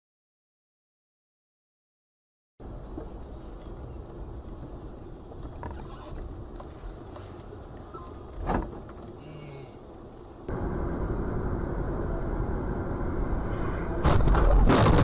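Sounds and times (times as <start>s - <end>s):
low rumble of moving vehicle: 2.6s - 15.0s.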